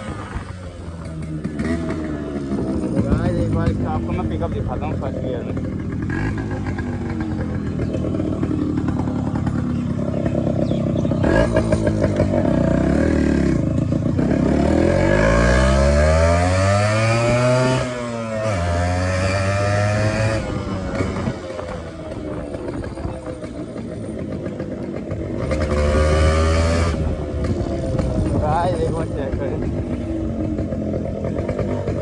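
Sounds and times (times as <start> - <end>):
motorcycle engine pulling away: 0.0 - 32.0.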